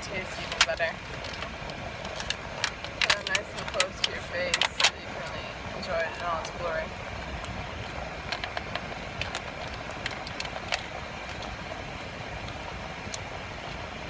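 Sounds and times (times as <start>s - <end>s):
low car cabin rumble: 0.0s - 14.0s.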